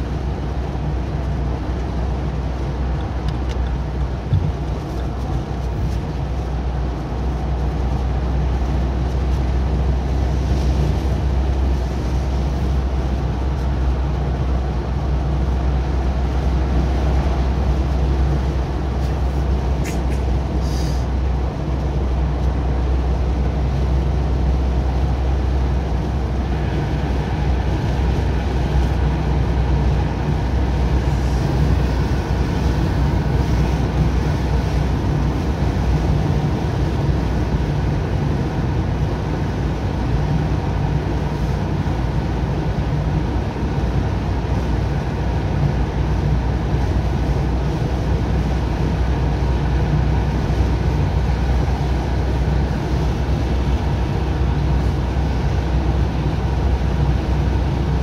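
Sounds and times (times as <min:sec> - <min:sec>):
car tyre and engine noise: 0:00.0 - 0:58.0.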